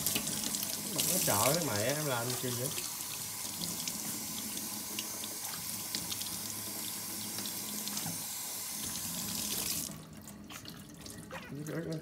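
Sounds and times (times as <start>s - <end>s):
water drips and splashes: 0.0s - 8.2s, 8.8s - 12.0s
faucet running into steel sink: 0.0s - 12.0s.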